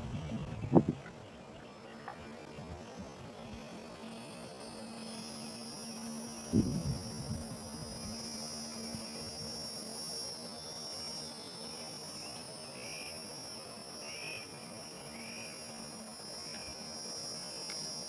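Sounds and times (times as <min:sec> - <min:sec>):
even low outdoor noise: 0:00.0 - 0:18.0
steady high-pitched hum: 0:00.0 - 0:18.0.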